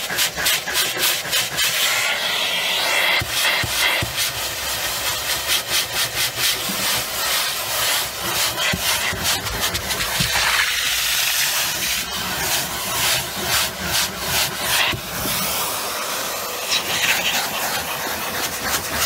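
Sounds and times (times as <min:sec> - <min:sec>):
nozzle scraping on carpet: 0:00.0 - 0:19.0
vacuum cleaner running: 0:00.0 - 0:19.0.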